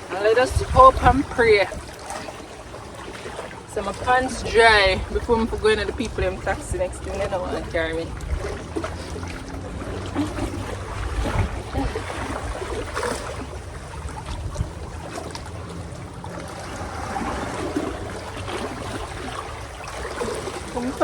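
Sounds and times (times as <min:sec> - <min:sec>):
water trickling at shore: 0:00.0 - 0:21.0
wind on microphone: 0:00.0 - 0:21.0.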